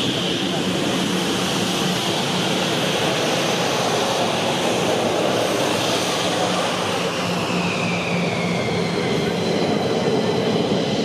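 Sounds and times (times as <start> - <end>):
jet engines roaring with whine: 0.0 - 11.0.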